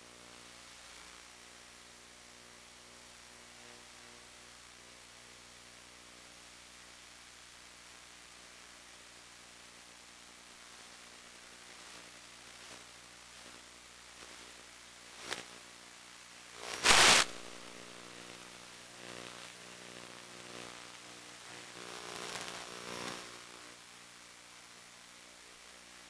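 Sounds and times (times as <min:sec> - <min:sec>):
crackling static: 0:00.0 - 0:26.0
faint hum: 0:00.0 - 0:26.0
static hiss: 0:00.0 - 0:26.0.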